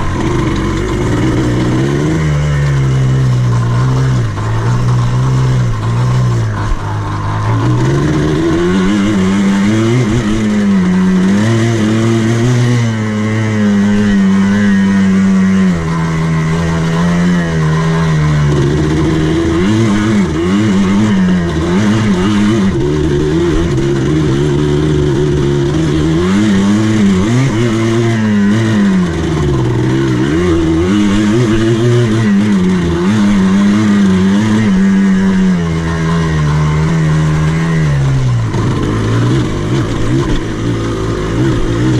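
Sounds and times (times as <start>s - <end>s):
buggy engine revving: 0.0s - 41.9s.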